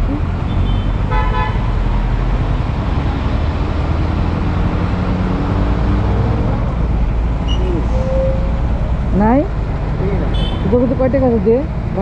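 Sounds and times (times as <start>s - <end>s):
idling vehicle engines rumbling: 0.0s - 12.0s.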